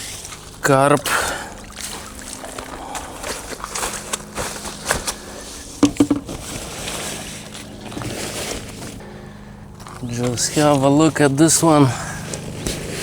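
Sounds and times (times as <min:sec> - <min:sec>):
fish being handled in a net: 0:00.0 - 0:10.8.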